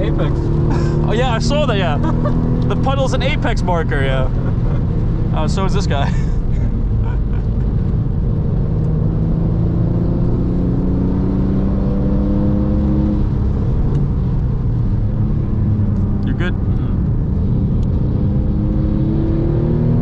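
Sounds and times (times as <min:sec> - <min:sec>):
car engine revving: 0:00.0 - 0:20.0
road and tyre rumble: 0:00.0 - 0:20.0.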